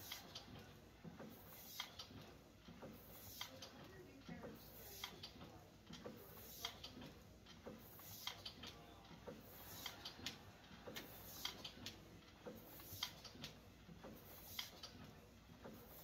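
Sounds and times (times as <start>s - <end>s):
elliptical trainer clicks: 0.0s - 16.0s.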